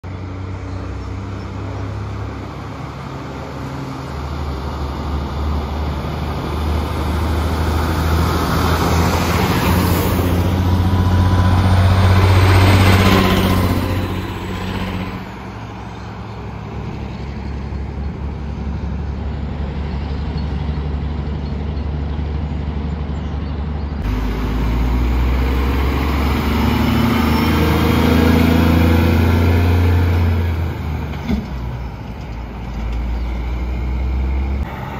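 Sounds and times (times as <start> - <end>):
diesel trucks passing: 0.0 - 34.9
truck accelerating: 0.0 - 34.9.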